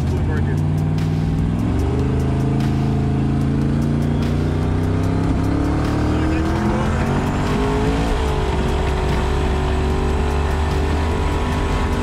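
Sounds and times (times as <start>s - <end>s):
road rumble: 0.0s - 12.0s
car engine from inside cabin: 0.2s - 12.0s.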